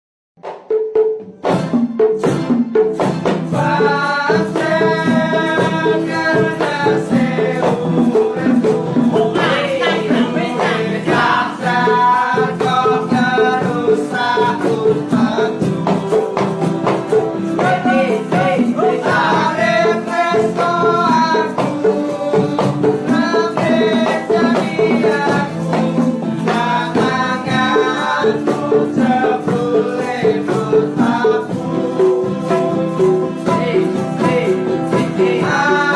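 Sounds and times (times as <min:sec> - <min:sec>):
steady percussion beat: 0:00.4 - 0:35.9
person singing: 0:03.5 - 0:35.9.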